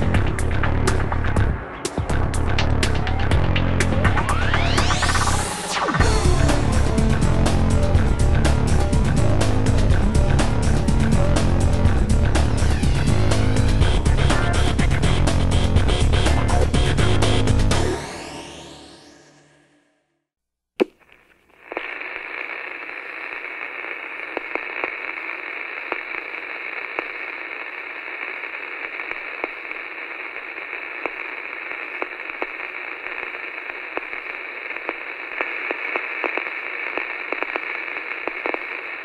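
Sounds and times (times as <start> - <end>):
radio static hiss with crackles: 2.7 - 19.5, 20.8 - 39.0.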